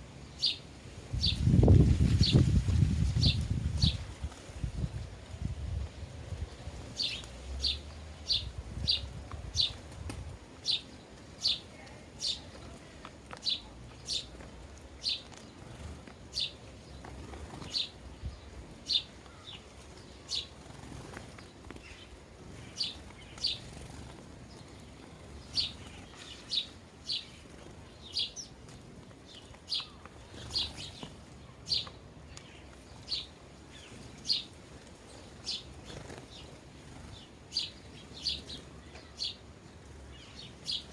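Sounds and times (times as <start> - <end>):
sparrow chirping: 0.0 - 40.9.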